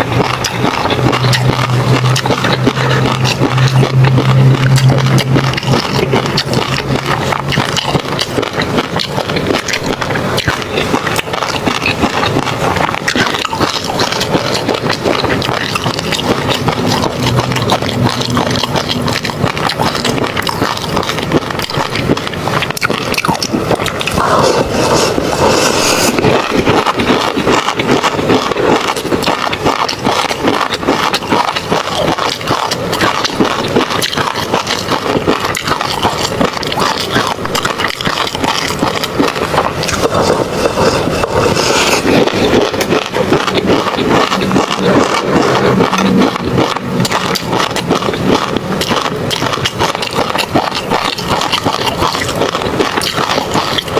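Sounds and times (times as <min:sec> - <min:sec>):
person chewing with wet clicks: 0:00.0 - 0:53.9.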